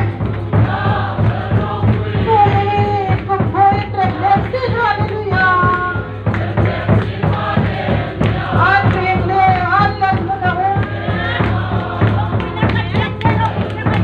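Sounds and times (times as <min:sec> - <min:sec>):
crowd singing a hymn: 0:00.0 - 0:14.0
drum beating: 0:00.0 - 0:14.0.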